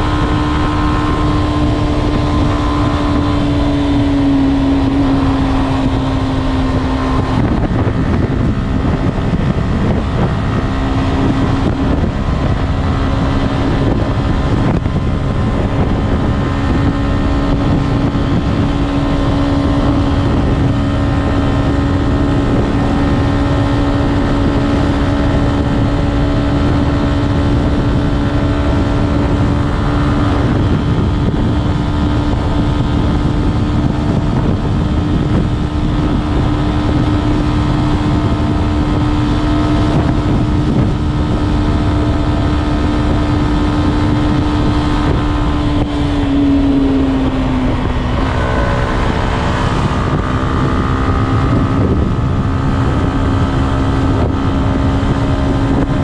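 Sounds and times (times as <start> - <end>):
motorcycle engine cruising: 0.0 - 56.0
wind buffeting microphone: 0.0 - 56.0.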